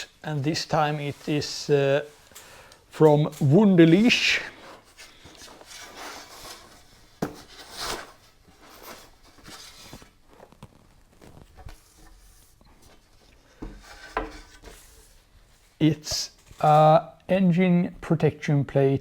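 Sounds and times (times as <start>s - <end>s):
rustling: 0.0s - 16.8s.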